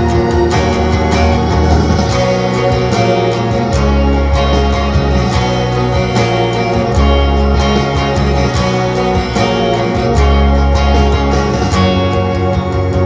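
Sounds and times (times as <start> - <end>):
bass line: 0.0 - 13.0
electric guitar picking chords: 0.0 - 13.0.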